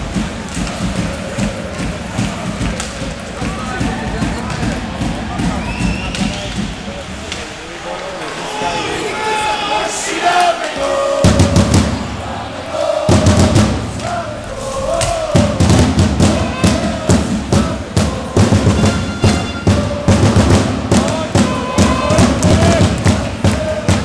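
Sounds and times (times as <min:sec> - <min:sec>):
fans chanting in unison: 0:00.0 - 0:06.7, 0:07.8 - 0:24.0
steady drum beat: 0:00.0 - 0:07.3, 0:10.8 - 0:24.0.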